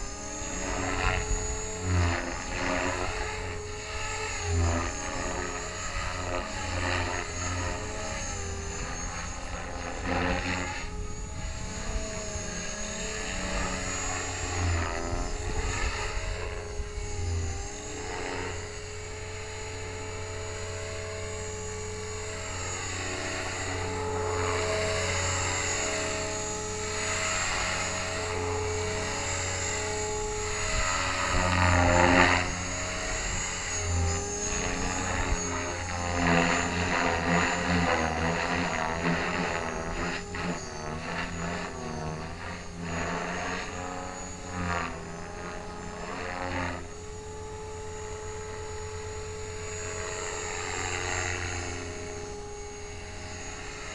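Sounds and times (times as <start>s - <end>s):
helicopter rotor blades whooshing: 0.0s - 53.9s
model helicopter motor whining: 0.0s - 53.9s.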